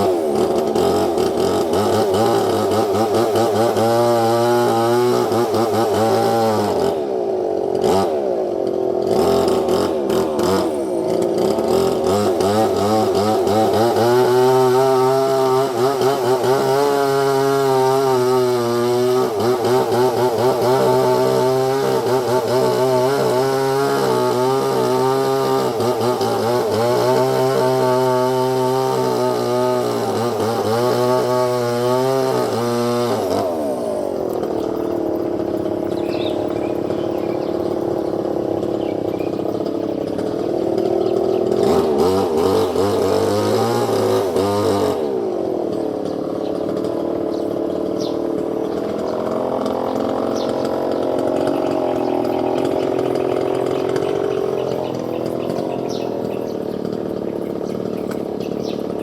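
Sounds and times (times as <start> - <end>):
small motor running: 0.0 - 59.0.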